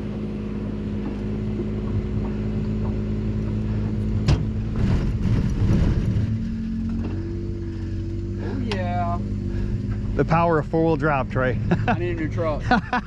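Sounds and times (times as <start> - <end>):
pickup engine running: 0.0 - 13.0.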